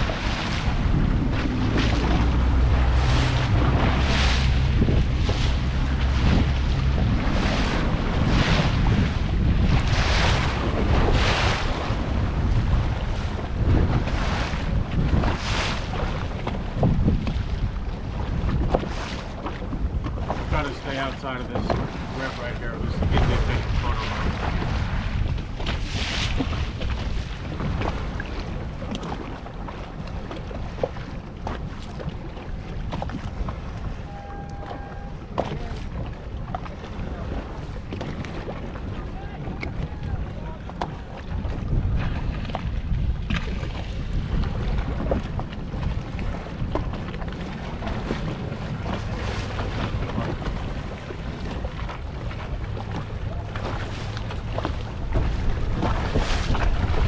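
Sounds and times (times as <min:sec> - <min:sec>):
boat engine rumbling: 0:00.0 - 0:57.0
water slapping along hull: 0:00.0 - 0:57.0
wind buffeting microphone: 0:00.0 - 0:57.0.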